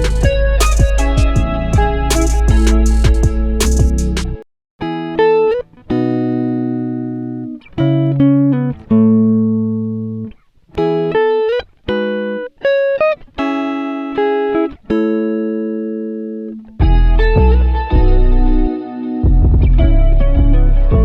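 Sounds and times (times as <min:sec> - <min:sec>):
instrumental guitar music: 0:00.0 - 0:21.0.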